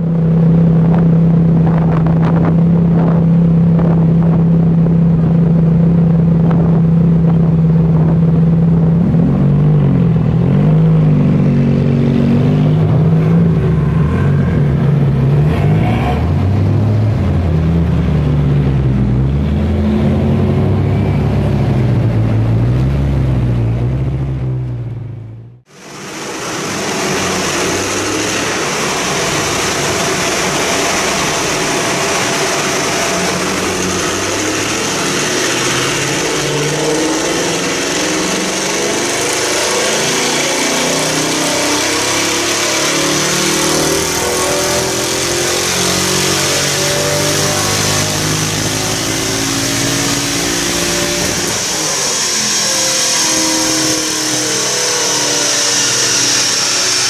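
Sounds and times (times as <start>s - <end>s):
car engine revving under load: 0.0s - 57.0s.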